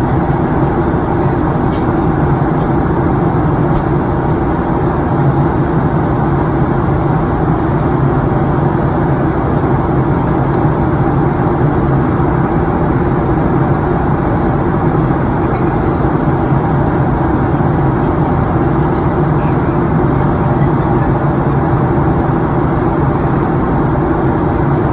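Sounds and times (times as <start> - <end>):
airplane cabin engine drone: 0.0 - 24.9.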